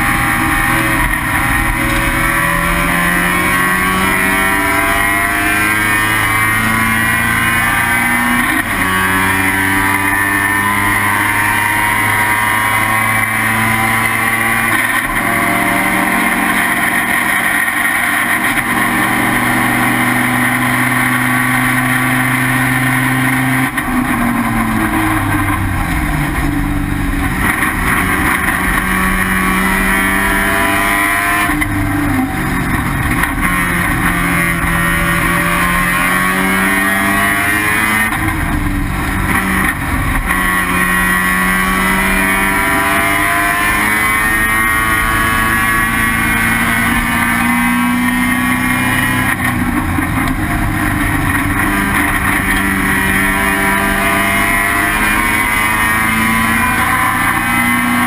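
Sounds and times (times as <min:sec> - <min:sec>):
race engine accelerating and shifting: 0:00.0 - 0:58.0.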